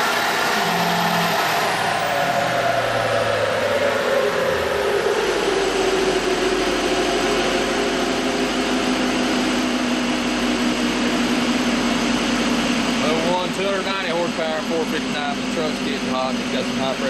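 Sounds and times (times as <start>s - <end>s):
truck winding down whine: 0.0s - 17.0s.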